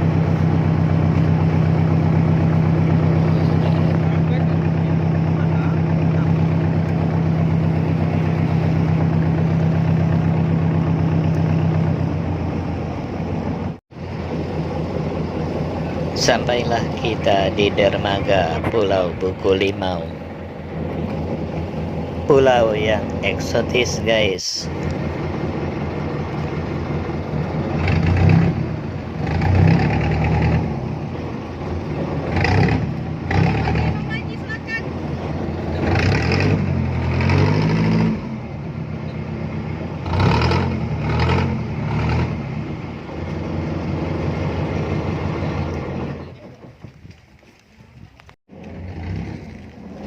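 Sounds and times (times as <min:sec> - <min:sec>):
boat engine running: 0:00.0 - 0:50.0.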